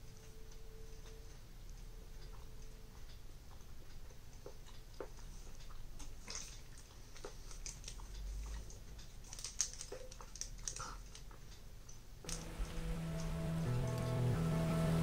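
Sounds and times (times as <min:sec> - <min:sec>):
quiet chewing: 0:00.0 - 0:14.2.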